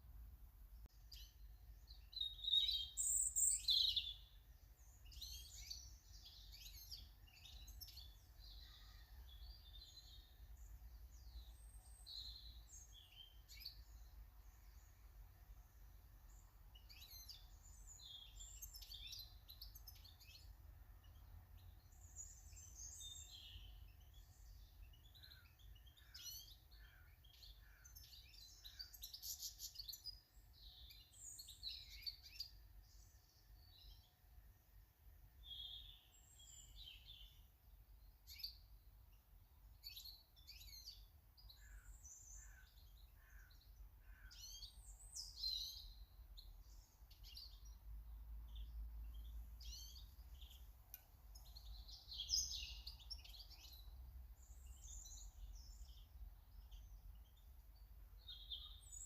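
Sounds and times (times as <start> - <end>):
garden birds chirping: 0.0 - 59.0.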